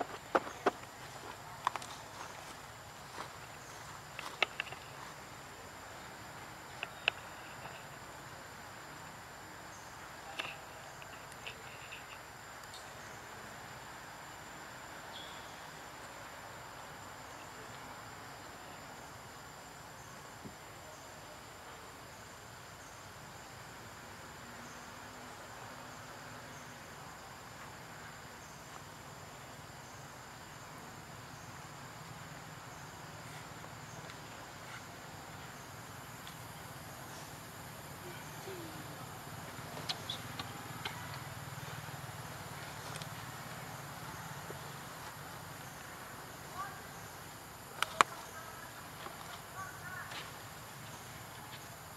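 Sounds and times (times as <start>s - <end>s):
insect chorus drone: 0.0s - 51.9s
soft hiss: 0.0s - 51.9s.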